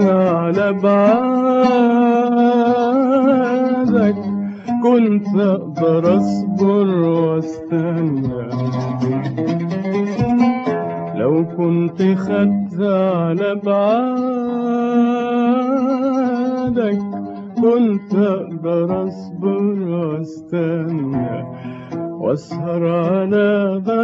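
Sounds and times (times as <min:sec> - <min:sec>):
man singing melismatic line: 0:00.0 - 0:09.4, 0:11.2 - 0:24.0
oud: 0:00.0 - 0:24.0.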